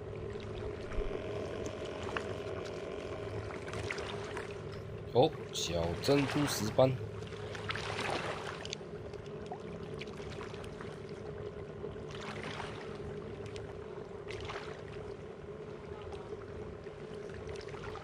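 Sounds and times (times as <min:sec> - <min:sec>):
motor drone: 0:00.0 - 0:18.0.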